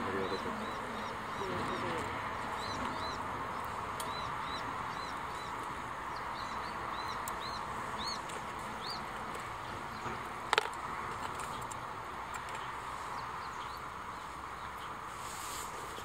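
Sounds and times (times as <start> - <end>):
small bird chirping: 0.0 - 10.2, 11.4 - 15.0.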